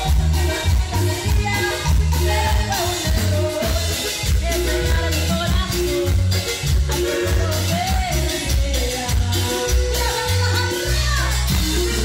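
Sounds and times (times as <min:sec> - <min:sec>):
accordion: 0:00.0 - 0:12.0
drums: 0:00.0 - 0:12.0
electric bass: 0:00.0 - 0:12.0
keyboard: 0:00.0 - 0:12.0
woman singing into a microphone: 0:00.0 - 0:12.0.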